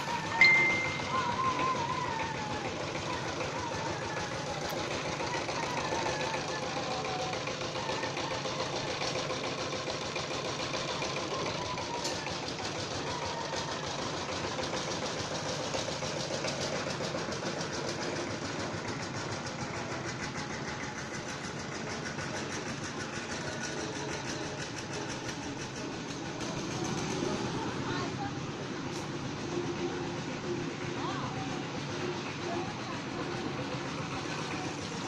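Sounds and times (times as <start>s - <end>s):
small engine knocking: 0.0s - 35.0s.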